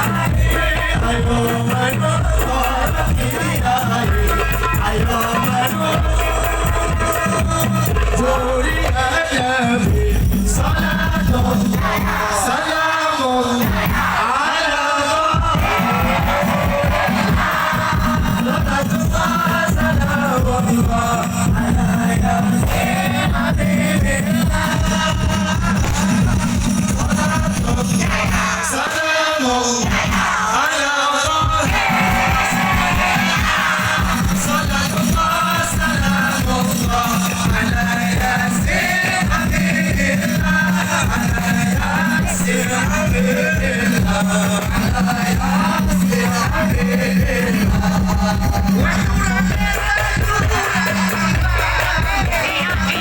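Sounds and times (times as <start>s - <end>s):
fast drum rhythm: 0.0s - 12.7s, 13.6s - 14.5s, 15.2s - 29.0s, 29.6s - 53.0s.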